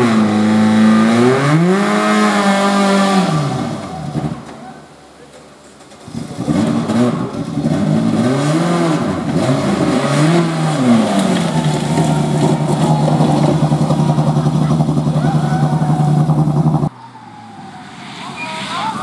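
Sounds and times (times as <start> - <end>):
rally car engine revving: 0.0 - 4.9, 5.6 - 16.9.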